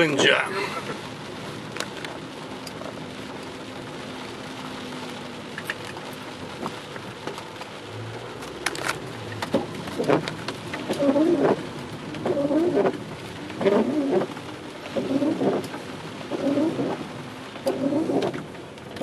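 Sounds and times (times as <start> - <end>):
rain hissing on car: 0.0 - 19.0
sharp ticks of raindrops: 0.0 - 19.0.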